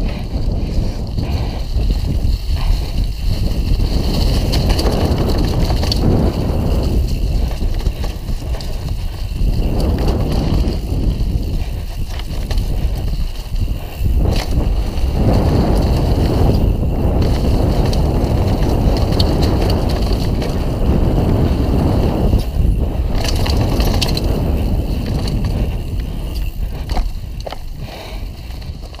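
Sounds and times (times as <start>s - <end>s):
bike tyres rolling over leaves: 0.0s - 29.0s.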